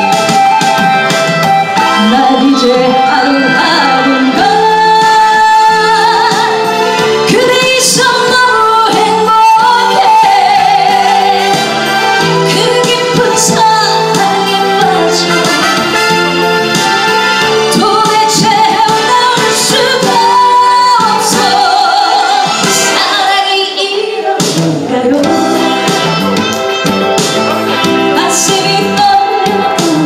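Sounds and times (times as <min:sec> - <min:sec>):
instrumental accompaniment: 0:00.0 - 0:30.0
woman singing into microphone: 0:01.8 - 0:26.2, 0:28.1 - 0:30.0.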